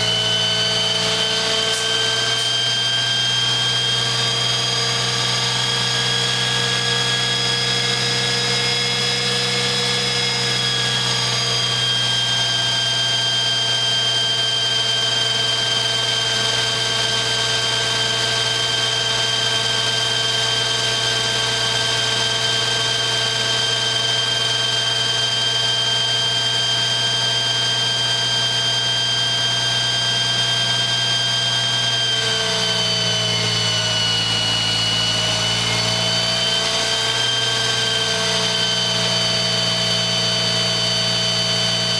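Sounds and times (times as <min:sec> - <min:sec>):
dynamometer roller whine: 0:00.0 - 0:41.9.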